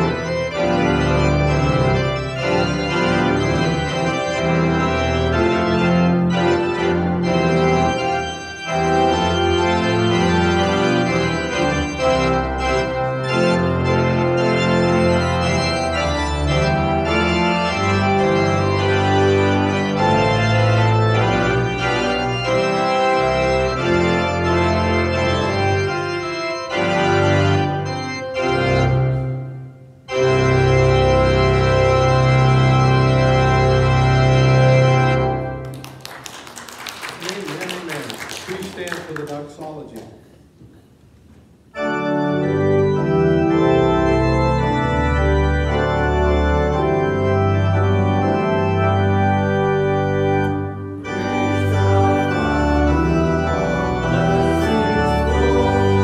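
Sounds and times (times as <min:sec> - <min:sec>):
organ playing sustained chords: 0:00.0 - 0:40.0, 0:41.5 - 0:56.0.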